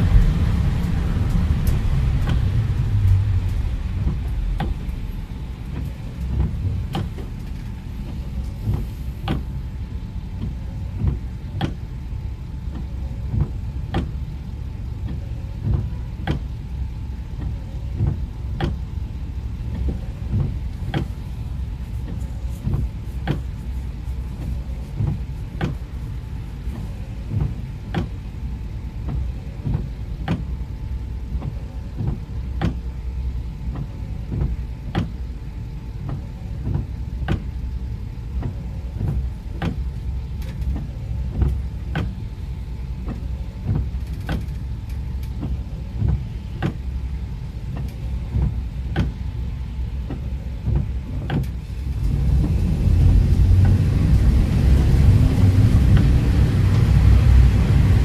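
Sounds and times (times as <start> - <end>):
road and engine rumble: 0.0 - 58.0
windshield wipers clicking: 0.8 - 9.6, 10.2 - 11.8, 12.6 - 16.6, 17.2 - 19.0, 19.6 - 28.3, 29.0 - 30.6, 31.3 - 32.9, 33.5 - 35.2, 36.0 - 58.0.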